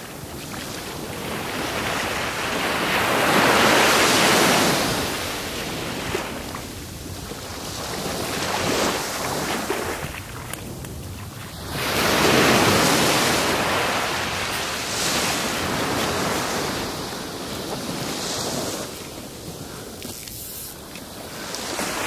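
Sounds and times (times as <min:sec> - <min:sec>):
small surf breaking on beach: 0:00.0 - 0:22.0.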